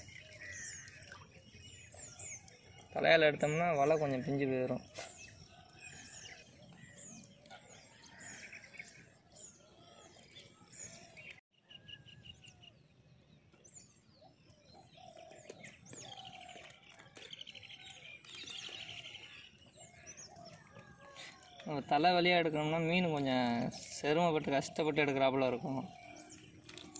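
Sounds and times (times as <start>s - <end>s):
birds chirping and calling: 0.0s - 26.9s.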